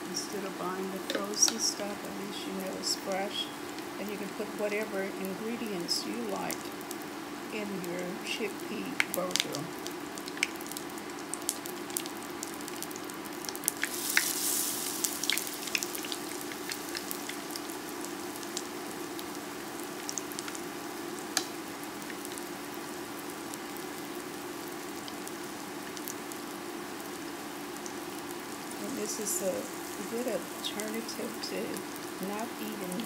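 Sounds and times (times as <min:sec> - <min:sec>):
patties sizzling in oil: 0:00.0 - 0:33.0.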